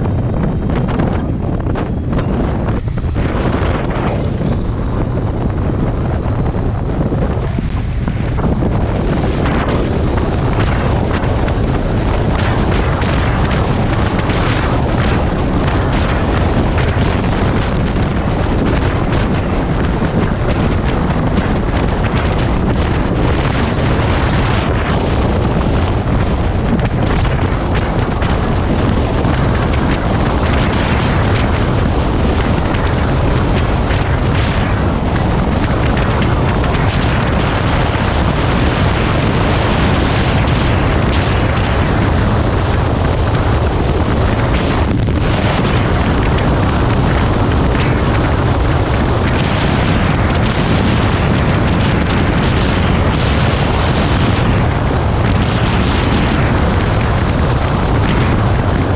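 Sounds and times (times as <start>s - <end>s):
motorcycle engine: 0.0s - 58.9s
wind buffeting microphone: 0.0s - 58.9s.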